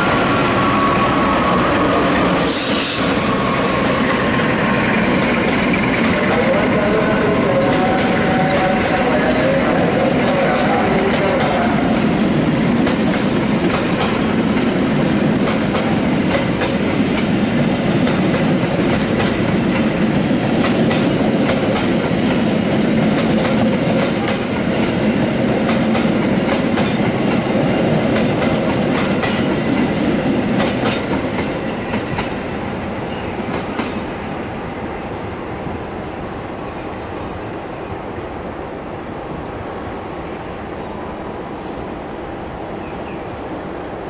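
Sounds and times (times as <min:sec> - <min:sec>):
train wheels clattering over rails: 0:00.0 - 0:38.4.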